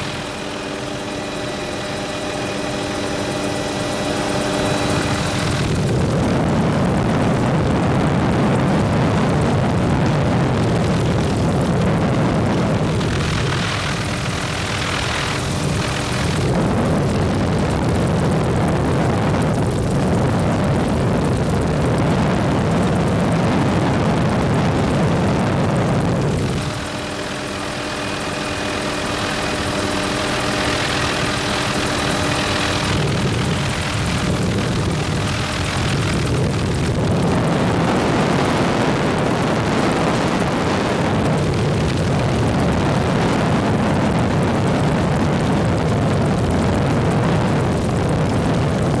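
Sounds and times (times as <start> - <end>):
helicopter engine and rotors: 0.0 - 49.0
multi-tone whine: 0.0 - 49.0.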